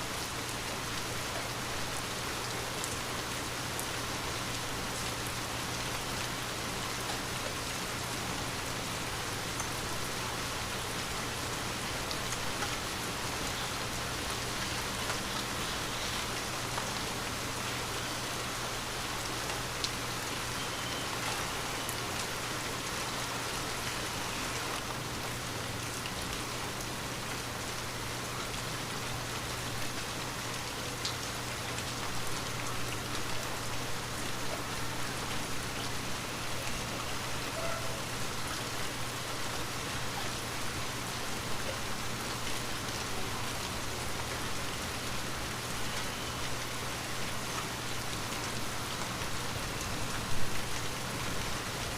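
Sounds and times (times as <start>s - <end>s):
light rain falling: 0.0s - 51.9s.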